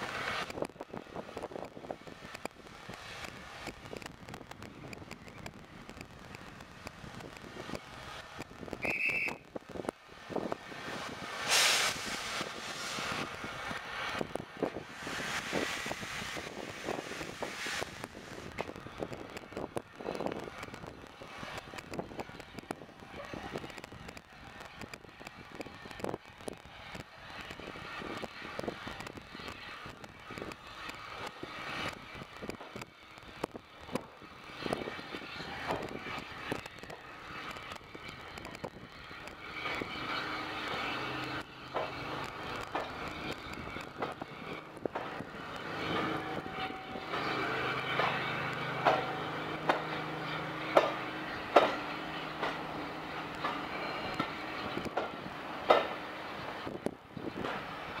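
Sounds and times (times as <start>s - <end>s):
steam locomotive exhaust beats: 0.0s - 58.0s
train coaches rolling past: 0.0s - 58.0s
wheels clacking over rail joints: 0.0s - 58.0s.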